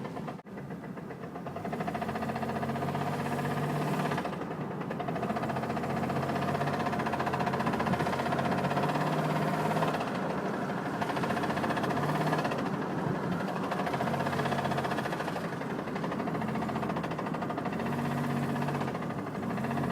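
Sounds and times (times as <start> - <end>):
engine knocking: 0.0 - 19.9.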